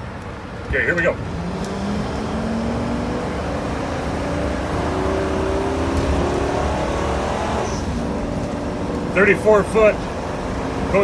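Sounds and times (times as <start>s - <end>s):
motorhome engine accelerating: 0.0s - 11.0s.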